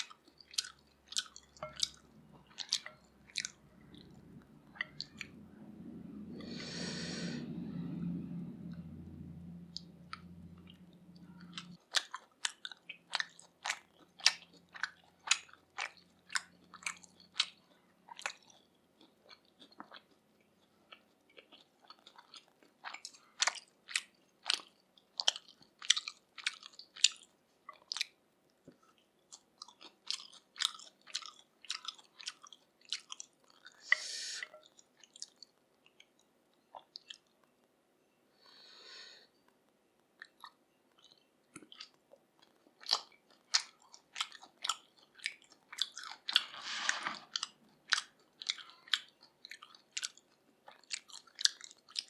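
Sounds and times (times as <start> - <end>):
person chewing wetly: 0.0 - 8.0, 8.6 - 37.8, 38.5 - 52.0.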